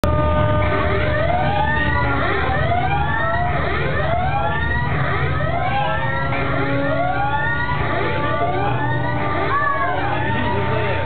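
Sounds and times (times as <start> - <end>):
steady alarm tones: 0.0 - 11.0
whooping alarm sweeps: 0.9 - 11.0.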